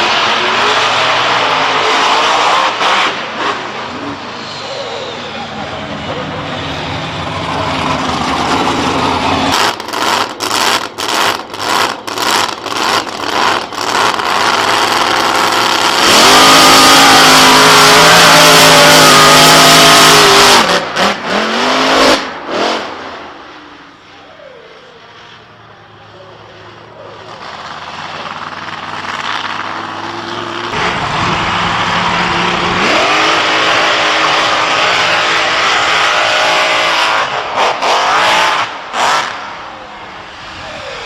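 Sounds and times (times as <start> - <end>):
monster truck engine revving: 0.0 - 23.9, 26.3 - 41.0.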